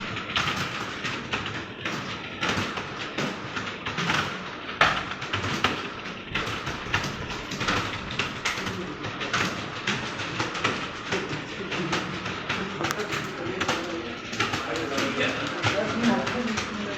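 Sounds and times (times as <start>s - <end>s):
fast keyboard typing: 0.0s - 16.9s.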